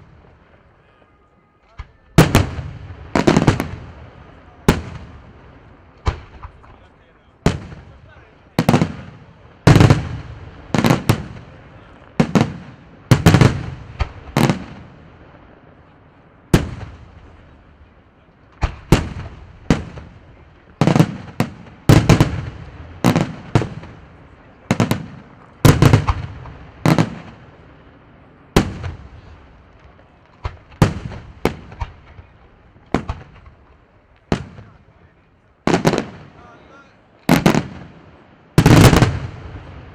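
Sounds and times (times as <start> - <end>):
fireworks booming: 0.0 - 39.9.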